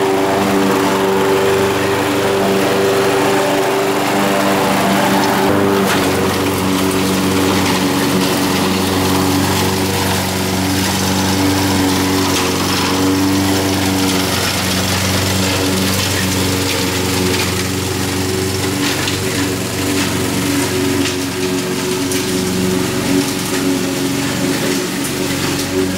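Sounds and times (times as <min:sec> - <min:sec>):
lawn mower engine running: 0:00.0 - 0:25.9.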